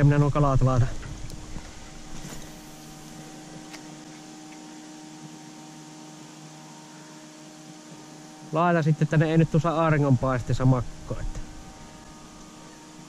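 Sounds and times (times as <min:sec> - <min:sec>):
faint hum of even tones: 0:00.0 - 0:13.0
soft hiss: 0:00.4 - 0:13.0.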